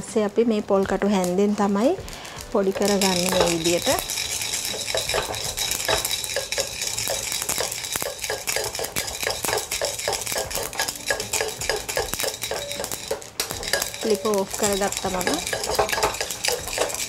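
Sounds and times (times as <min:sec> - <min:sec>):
spoon grinding seeds in metal pan: 0:02.1 - 0:17.0.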